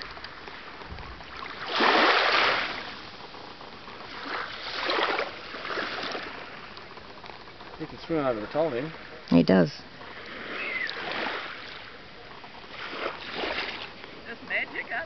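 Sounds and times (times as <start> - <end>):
sea water lapping at shore: 0.0 - 15.0.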